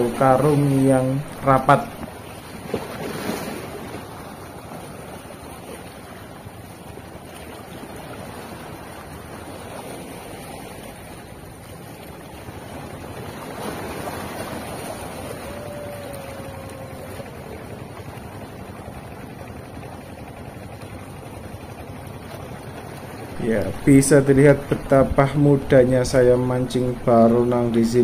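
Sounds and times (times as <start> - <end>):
small waves lapping around rock: 0.0 - 28.0.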